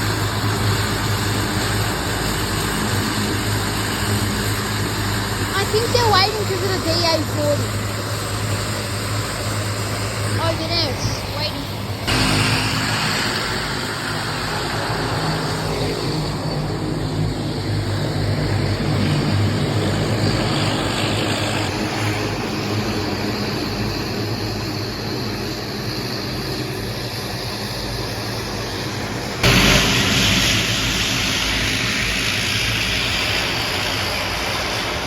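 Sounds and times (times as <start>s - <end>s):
engine humming steadily: 0.0s - 35.0s.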